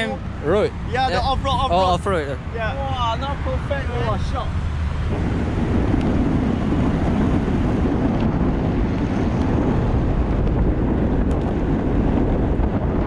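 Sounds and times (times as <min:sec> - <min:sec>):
wind rushing on microphone: 0:00.0 - 0:13.0
wheels rolling on asphalt: 0:00.2 - 0:13.0.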